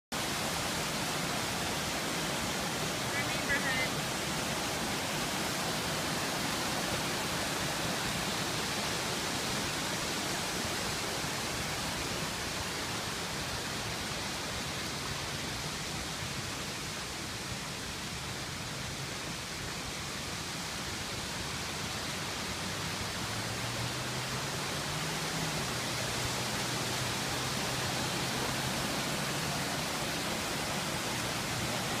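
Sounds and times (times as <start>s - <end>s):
floodwater rushing: 0.1s - 32.0s.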